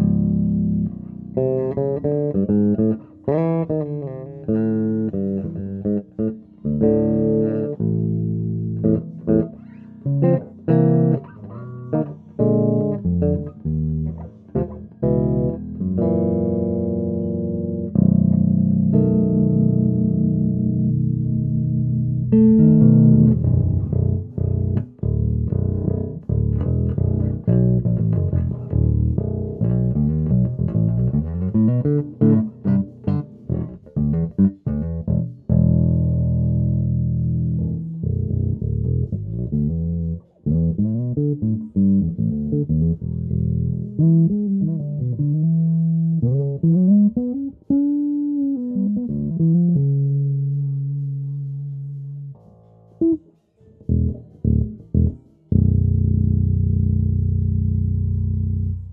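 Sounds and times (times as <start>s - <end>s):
electric bass being played: 0.0s - 58.9s.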